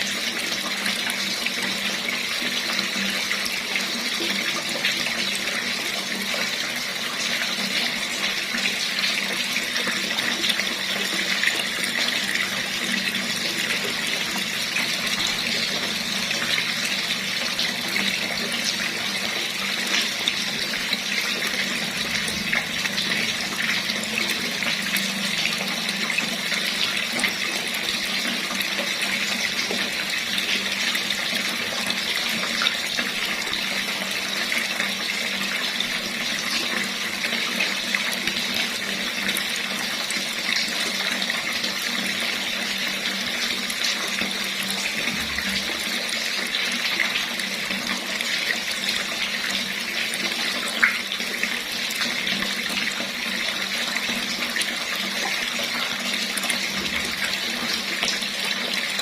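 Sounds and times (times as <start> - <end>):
water running from a tap: 0.0 - 59.0.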